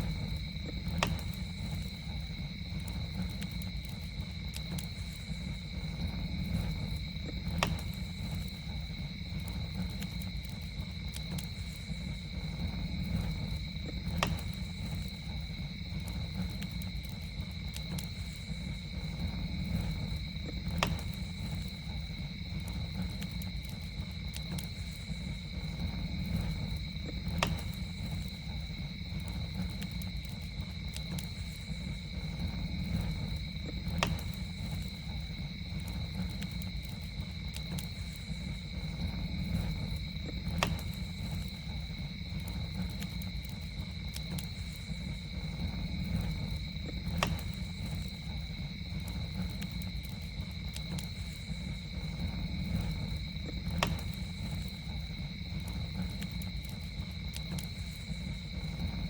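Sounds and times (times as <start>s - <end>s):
campfire crackling: 0.0s - 59.0s
fire popping: 0.0s - 59.0s
insects droning: 0.0s - 59.0s.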